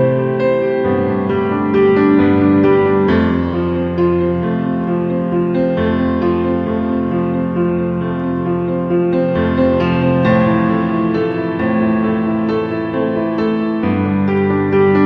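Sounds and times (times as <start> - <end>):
slow keyboard tune: 0.0 - 15.0.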